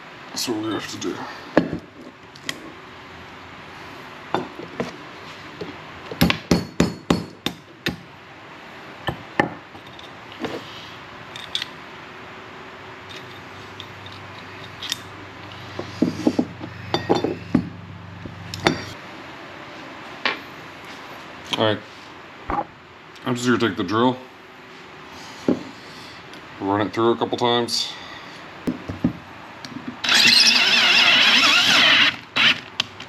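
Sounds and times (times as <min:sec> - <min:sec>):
low steady hum: 0:00.0 - 0:30.2.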